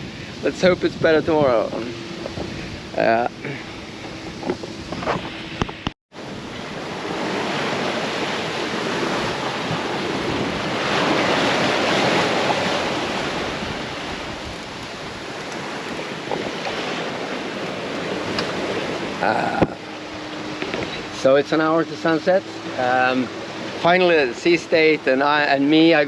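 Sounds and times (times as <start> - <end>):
wind buffeting microphone: 0.0 - 25.5
water rushing along boat hull: 0.0 - 26.0.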